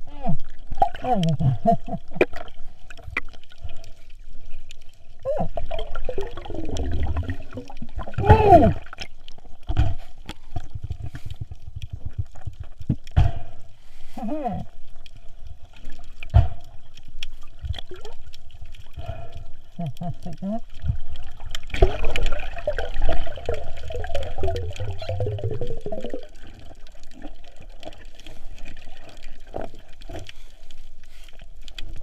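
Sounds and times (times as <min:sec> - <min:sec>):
water gurgling and trickling: 0:00.0 - 0:32.0.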